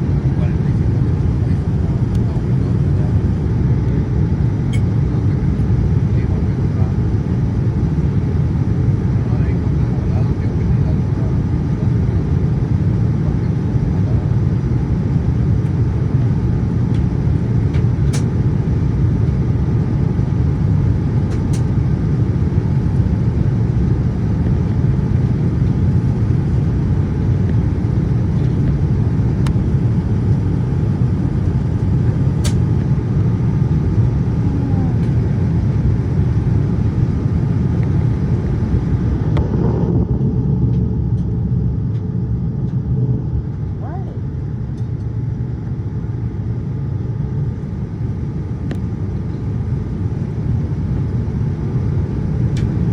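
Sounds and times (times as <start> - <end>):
airliner cabin rumble: 0.0 - 52.9.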